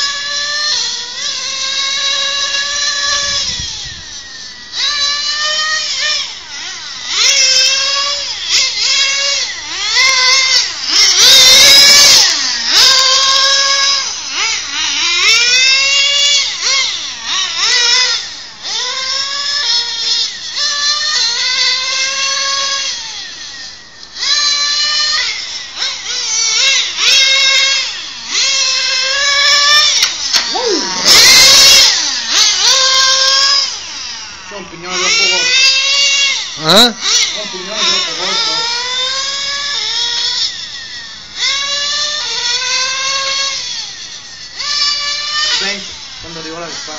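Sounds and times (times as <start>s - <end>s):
small engine revving: 0.0s - 46.9s.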